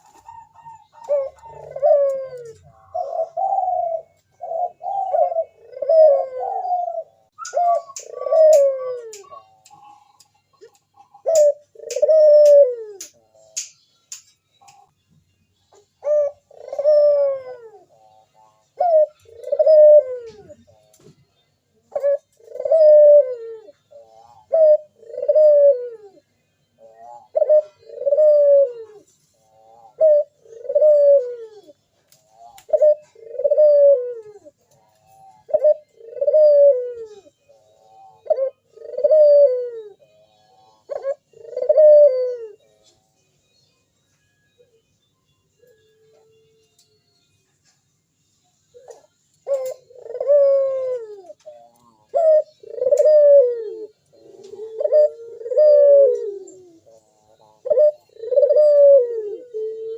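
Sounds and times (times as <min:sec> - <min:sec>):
dove cooing: 0:00.0 - 0:13.6, 0:15.7 - 0:21.2, 0:21.8 - 0:42.7, 0:48.7 - 0:59.9.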